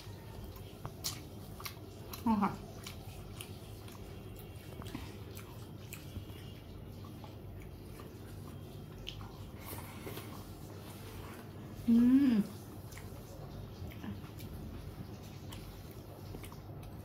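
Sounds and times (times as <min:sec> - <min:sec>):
chewing: 0:00.0 - 0:17.0
wet squelches of hand eating: 0:00.0 - 0:17.0.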